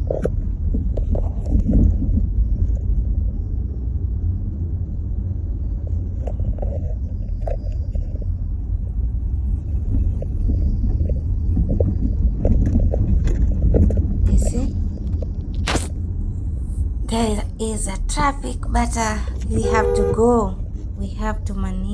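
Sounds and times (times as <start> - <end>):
vehicle rumbling in traffic: 0.0 - 21.9.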